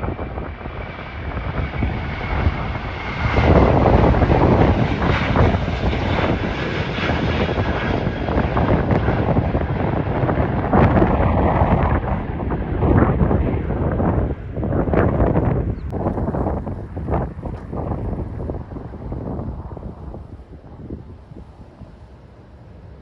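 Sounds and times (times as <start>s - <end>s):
jet engines roaring: 0.0s - 23.0s
wind buffeting microphone: 0.0s - 23.0s.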